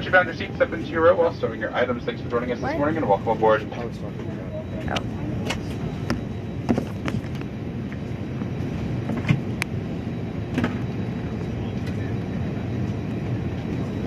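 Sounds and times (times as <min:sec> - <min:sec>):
airliner cabin rush: 0:00.0 - 0:14.0.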